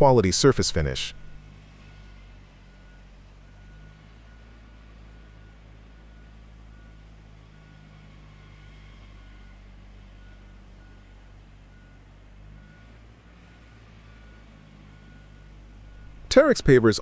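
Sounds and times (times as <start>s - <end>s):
paving machine engine running: 0.0s - 17.0s.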